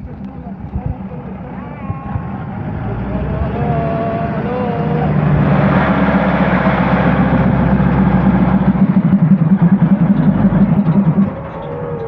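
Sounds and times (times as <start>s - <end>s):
diesel train engine throbbing: 0.0s - 12.0s.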